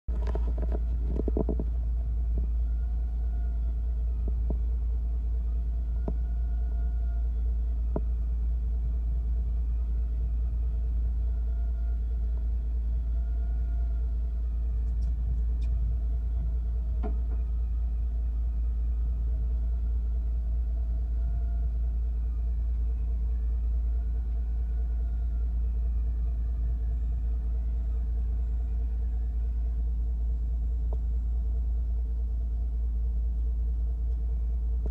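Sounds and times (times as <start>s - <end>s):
boat engine rumbling: 0.0s - 34.9s
faint droning hum: 0.1s - 34.9s.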